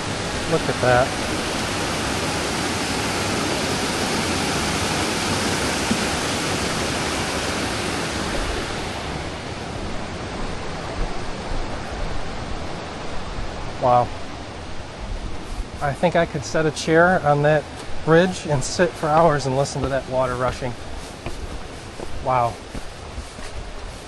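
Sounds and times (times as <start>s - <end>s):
creek water rushing over rocks: 0.0s - 24.0s.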